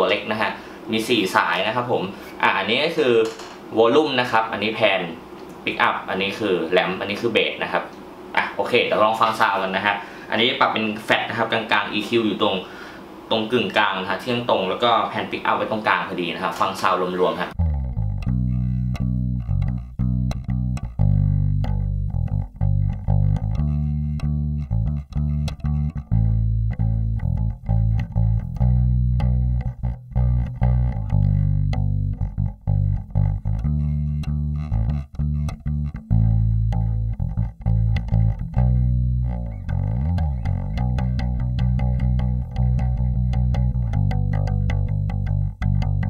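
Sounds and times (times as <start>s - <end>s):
electric bass played fingerstyle: 0.0s - 12.8s, 14.0s - 46.0s.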